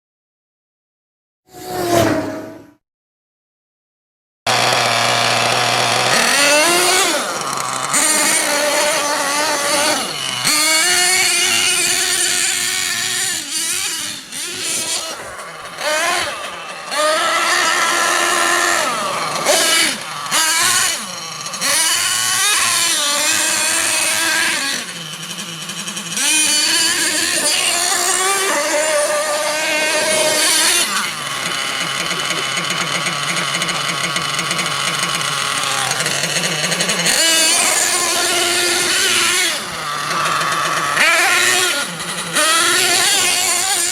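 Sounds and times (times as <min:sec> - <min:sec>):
small nitro engine revving: 0:01.5 - 0:02.8, 0:04.5 - 0:43.9.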